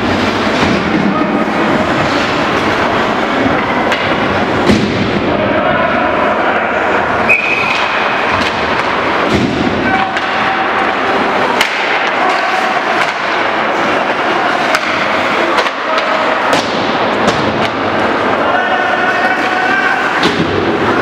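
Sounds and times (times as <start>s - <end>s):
hockey sticks and puck clacking: 0.0s - 21.0s
steady crowd din: 0.0s - 21.0s.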